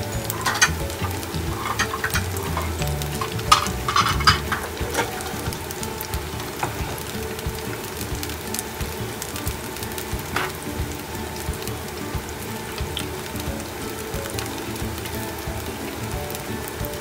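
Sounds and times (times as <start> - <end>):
fritters deep-frying in oil: 0.0 - 17.0.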